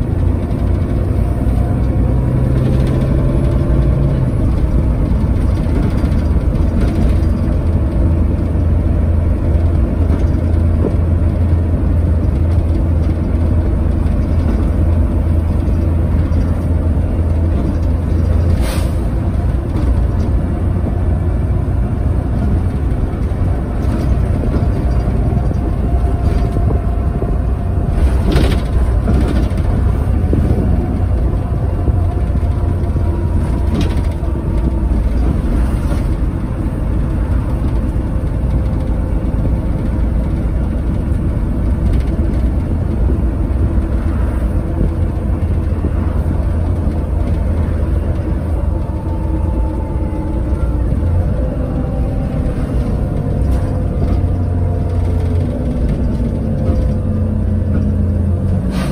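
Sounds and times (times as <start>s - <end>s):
bus diesel engine: 0.0s - 58.9s
heavy road rumble: 0.0s - 58.9s.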